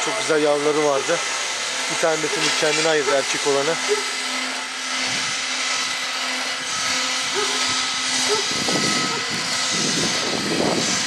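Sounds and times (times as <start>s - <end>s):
steady machine drone: 0.0s - 11.0s.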